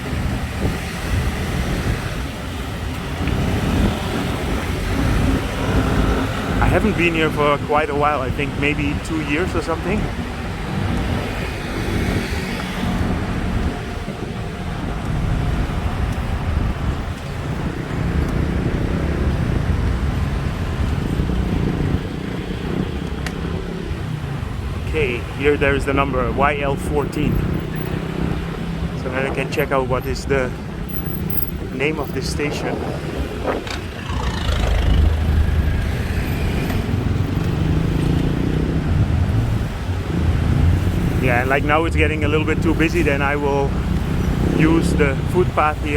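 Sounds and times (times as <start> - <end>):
road traffic rumbling: 0.0 - 45.9.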